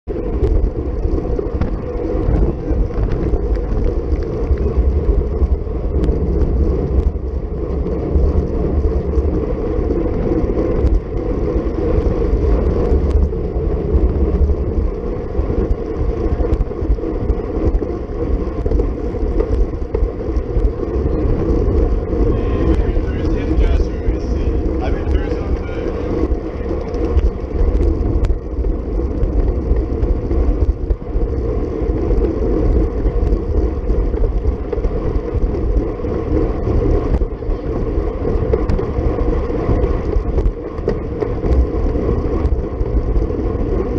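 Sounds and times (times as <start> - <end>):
tyre and road noise: 0.0 - 43.9
wind buffeting on microphone: 0.0 - 43.9.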